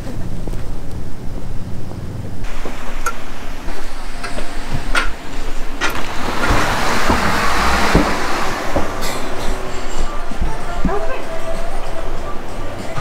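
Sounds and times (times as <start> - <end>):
outdoor background noise: 0.0 - 13.0
rushing noise: 1.0 - 13.0
glass door opening: 2.4 - 13.0.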